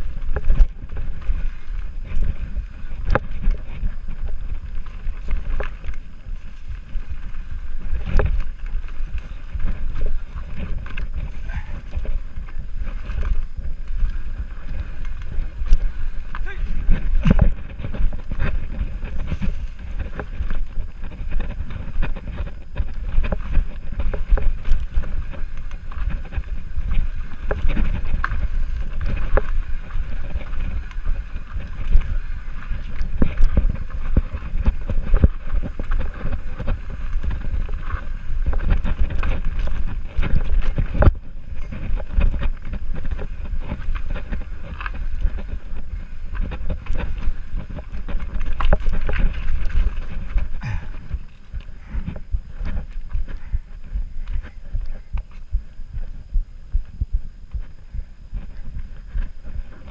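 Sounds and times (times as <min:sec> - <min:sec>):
bike clicks and knocks: 0:00.0 - 0:55.5
bike tyres rumbling on dirt: 0:00.0 - 0:59.9
wind on microphone: 0:00.0 - 0:59.9.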